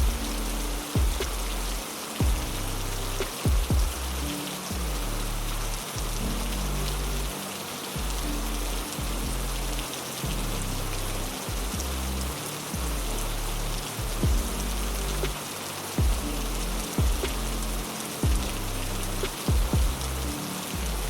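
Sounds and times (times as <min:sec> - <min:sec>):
heavy rain falling: 0:00.0 - 0:21.0
low sustained music notes: 0:00.0 - 0:21.0.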